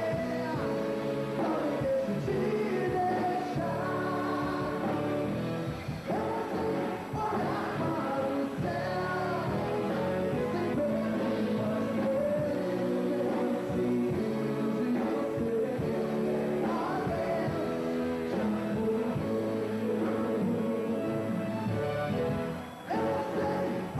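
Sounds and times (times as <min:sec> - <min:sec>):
person singing: 0:00.0 - 0:23.9
pop-rock band playing: 0:00.0 - 0:23.9.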